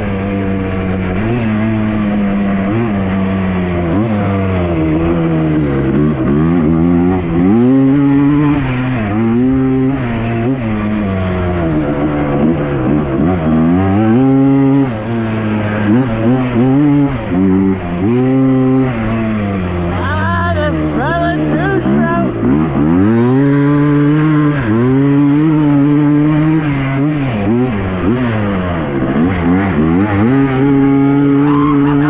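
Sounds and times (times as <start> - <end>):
two-stroke quad engine revving: 0.0 - 32.0.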